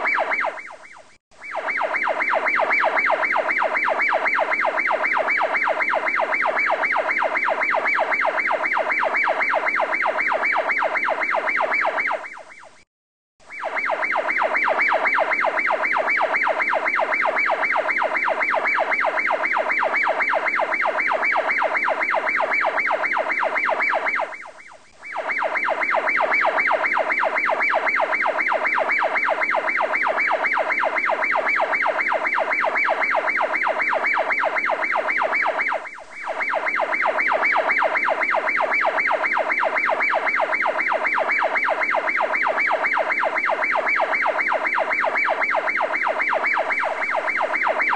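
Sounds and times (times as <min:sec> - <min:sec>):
pulsing electronic siren tone: 0:00.0 - 0:12.8, 0:13.4 - 0:47.9.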